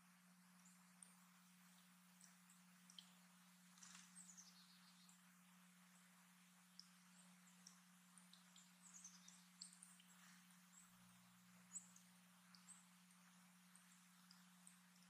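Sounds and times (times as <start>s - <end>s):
steady low hum: 0.0s - 15.0s
small birds chirping: 0.6s - 15.0s.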